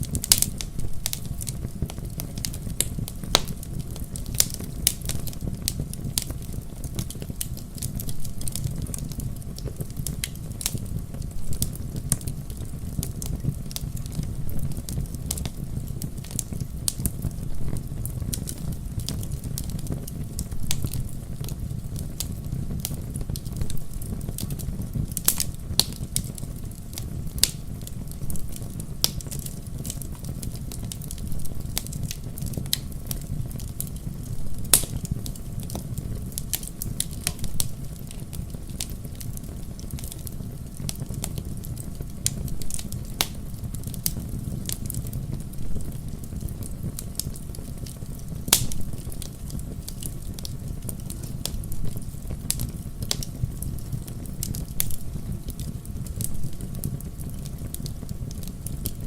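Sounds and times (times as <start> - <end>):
fire crackling and popping: 0.0 - 59.0
fire low rumble: 0.0 - 59.0.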